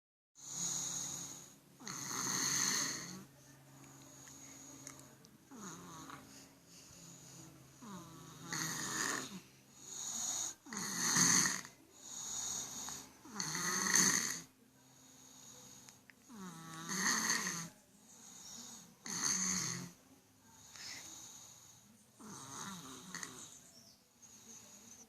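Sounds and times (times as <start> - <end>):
child snoring: 0.4 - 3.3, 5.5 - 20.0, 20.6 - 25.0
quiet breathing: 0.4 - 25.0.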